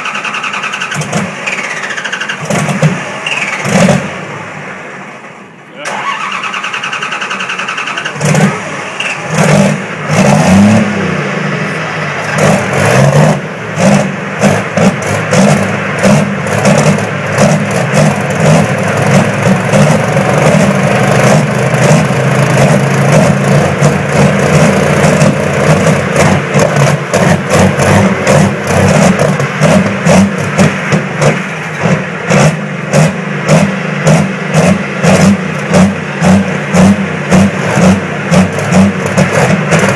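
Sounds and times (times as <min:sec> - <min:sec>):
diesel tractor engines revving: 0:00.0 - 0:39.9.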